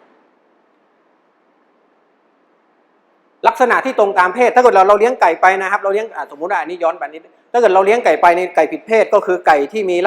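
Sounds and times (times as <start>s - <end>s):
faint recording hiss: 0.0s - 10.0s.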